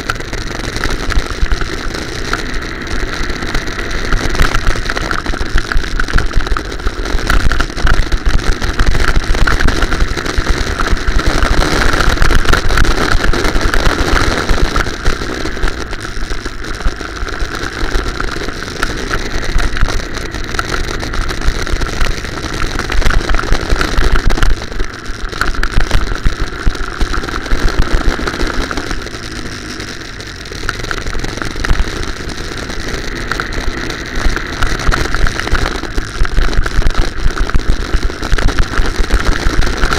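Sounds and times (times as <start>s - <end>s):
go-kart engine running hard: 0.0s - 39.9s
heavy vibration rumble: 0.0s - 39.9s.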